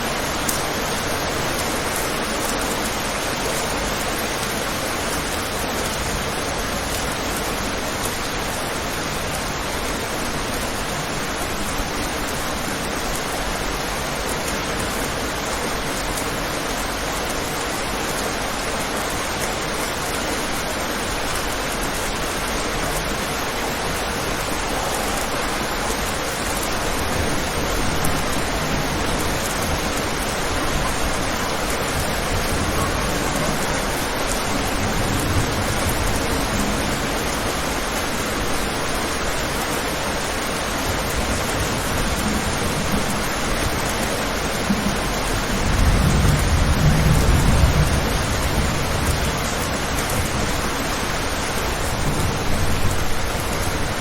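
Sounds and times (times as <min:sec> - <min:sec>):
rain on a window: 0:00.0 - 0:54.0.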